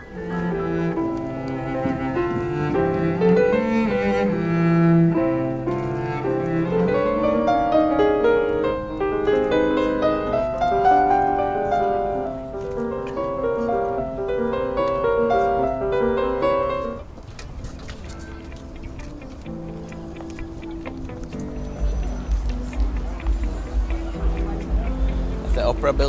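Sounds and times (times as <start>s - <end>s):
cello playing: 0.0s - 17.0s, 17.9s - 26.0s
grand piano playing: 0.0s - 26.0s.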